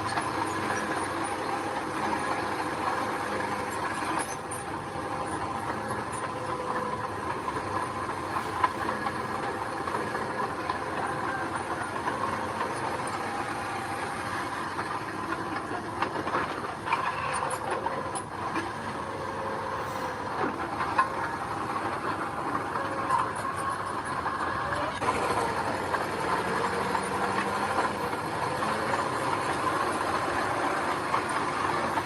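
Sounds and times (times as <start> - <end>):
heavy machine engine running: 0.0 - 32.0.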